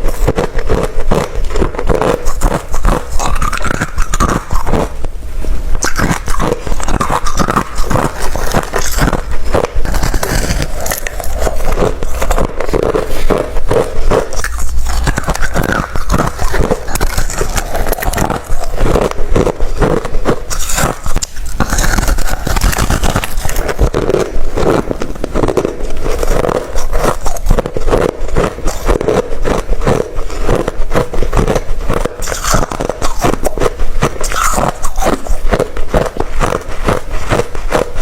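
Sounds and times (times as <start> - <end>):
chewing crushed ice: 0.0 - 38.0.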